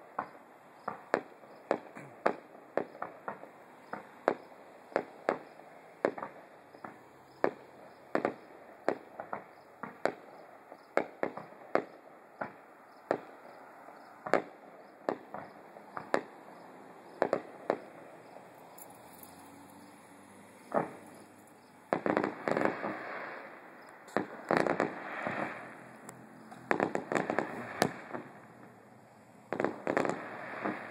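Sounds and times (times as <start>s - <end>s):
distant fireworks bursting: 0.0s - 30.9s.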